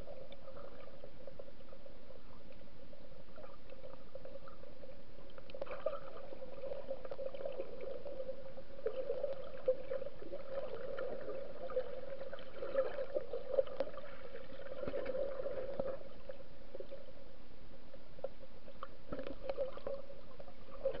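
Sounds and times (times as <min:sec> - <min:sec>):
small clicks and crackles: 0:00.0 - 0:17.2, 0:17.9 - 0:21.0.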